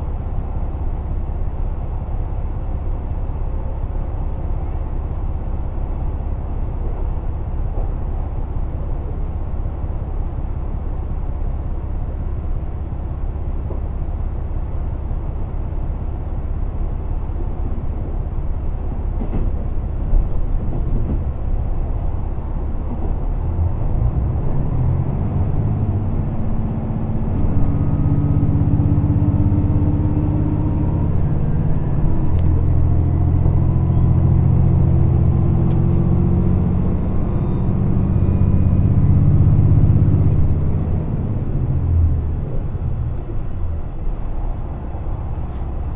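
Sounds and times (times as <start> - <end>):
train carriage rumbling on rails: 0.0 - 45.9.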